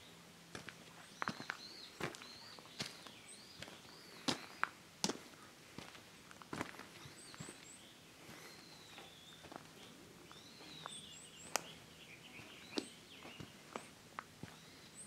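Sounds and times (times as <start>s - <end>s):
small birds chirping: 0.0s - 15.0s
footsteps on gravel: 0.5s - 14.8s.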